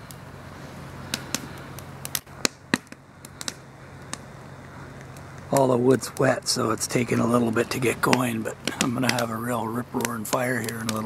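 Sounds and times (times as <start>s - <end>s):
campfire crackling and popping: 0.0s - 11.0s
low hum: 0.0s - 11.0s.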